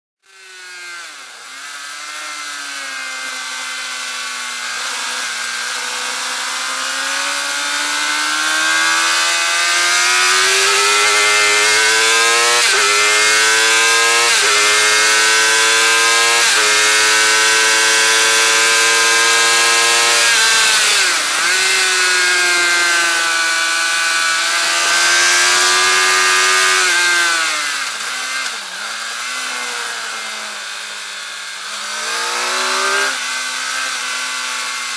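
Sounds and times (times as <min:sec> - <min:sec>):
motorcycle engine revving through gears: 0:00.2 - 0:34.9.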